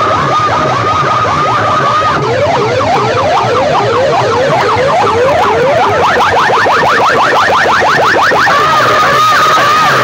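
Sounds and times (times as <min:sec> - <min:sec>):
electronic siren wail: 0:00.0 - 0:10.0.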